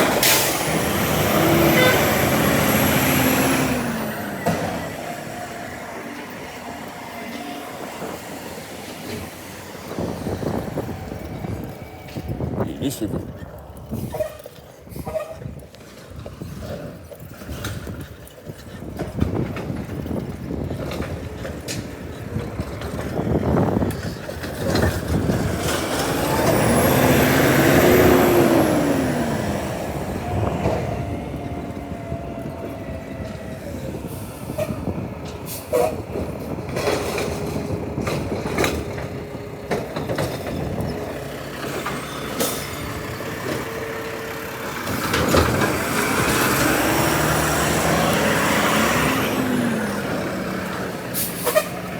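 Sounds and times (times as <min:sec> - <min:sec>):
garbage truck engine whine: 0:00.0 - 0:51.9.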